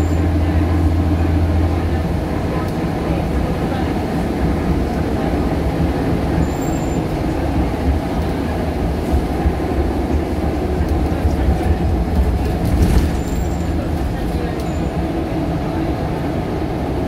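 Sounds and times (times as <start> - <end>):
bus diesel engine and road noise: 0.0 - 17.0.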